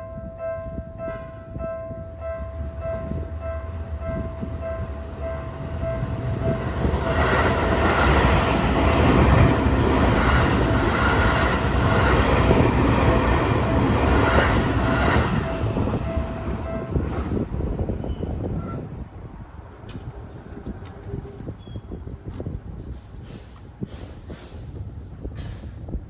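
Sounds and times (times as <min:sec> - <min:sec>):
electric train passing: 0:00.0 - 0:21.9.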